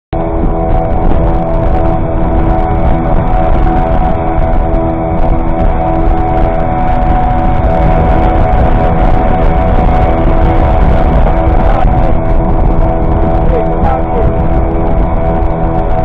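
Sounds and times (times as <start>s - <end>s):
music: 0.2s - 16.0s
outboard motors droning: 0.2s - 16.0s.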